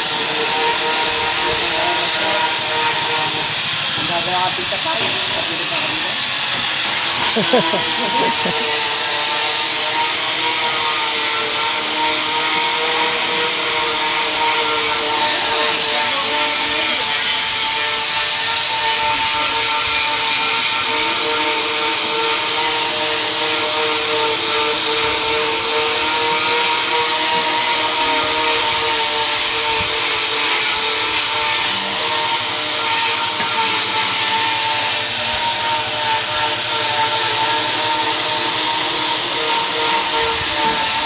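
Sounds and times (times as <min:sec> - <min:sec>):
electric polisher whining: 0:00.0 - 0:41.0.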